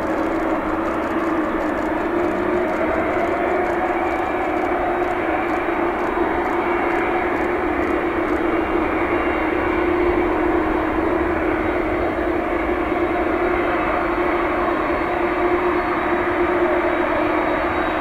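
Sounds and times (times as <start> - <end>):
jet engines rushing and droning: 0.0 - 18.0.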